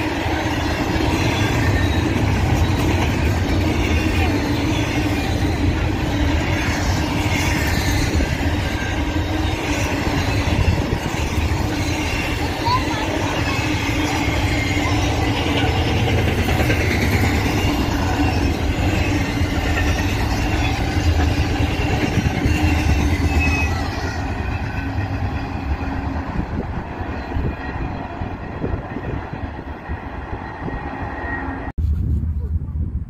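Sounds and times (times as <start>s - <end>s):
high squeal: 0.0s - 31.7s
train wheels rumbling on rails: 0.0s - 33.0s.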